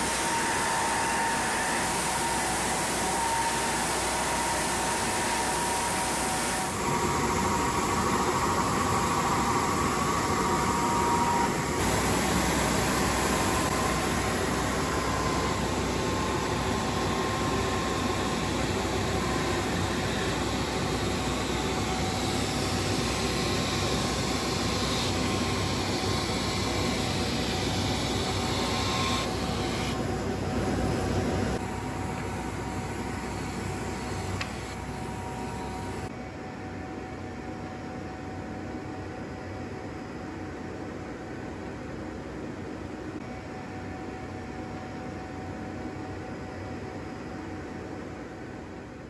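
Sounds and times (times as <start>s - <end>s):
faint machine whine: 0.0s - 49.0s.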